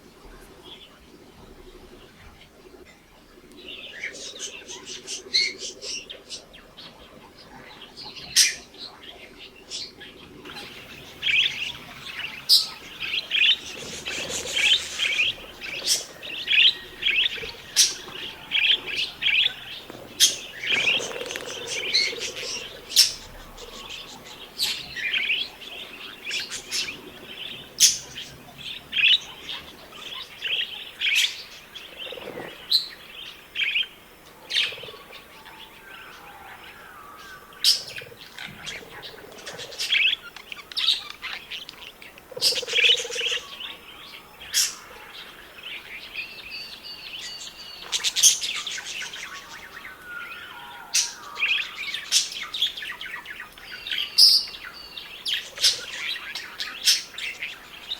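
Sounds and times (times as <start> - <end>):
budgerigars chirping and warbling: 3.6 - 57.9.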